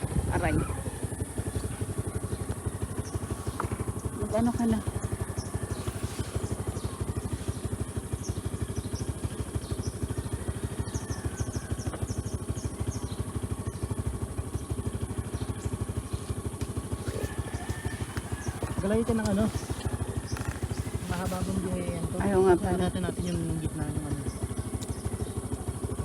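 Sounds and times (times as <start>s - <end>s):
scooter engine running: 0.0s - 26.0s.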